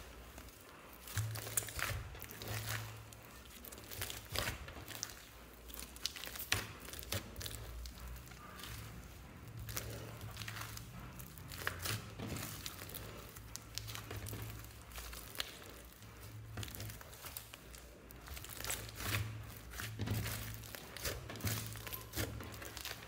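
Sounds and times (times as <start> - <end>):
slime squeezed with sticky crackles: 0.0 - 23.0.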